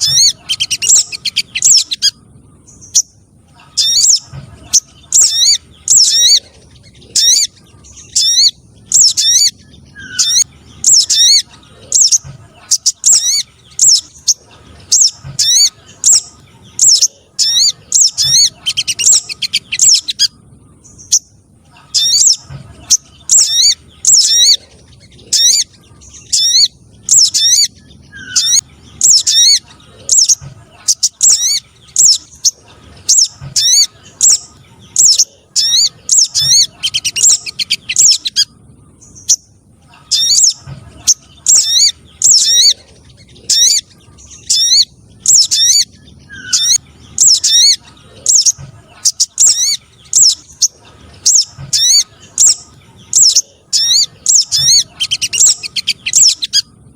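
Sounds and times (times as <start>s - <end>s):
bird chirping high and sharp: 0.0s - 56.7s.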